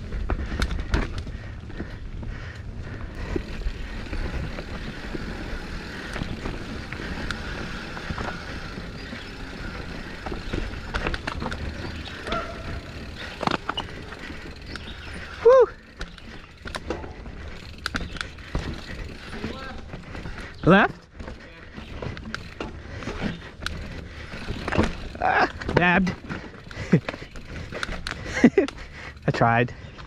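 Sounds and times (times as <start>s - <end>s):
bike rattling over rocks: 0.0s - 30.0s
wind and tyres rumbling: 0.0s - 30.0s.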